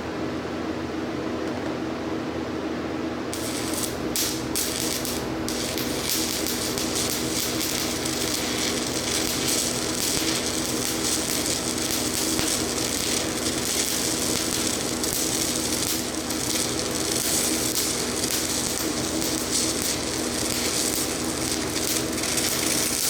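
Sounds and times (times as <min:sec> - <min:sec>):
welding arc crackling: 0:03.3 - 0:23.0.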